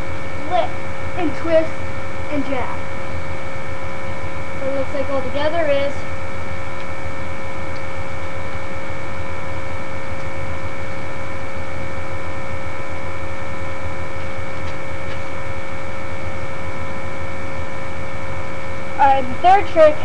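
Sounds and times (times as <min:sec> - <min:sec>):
higher buzzing tone: 0:00.0 - 0:20.0
loud electrical hum: 0:00.0 - 0:20.0.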